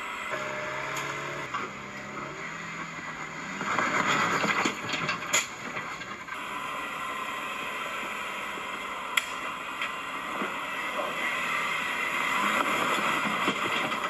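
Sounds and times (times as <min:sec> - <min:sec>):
vehicle driving off-road: 0:00.0 - 0:14.0.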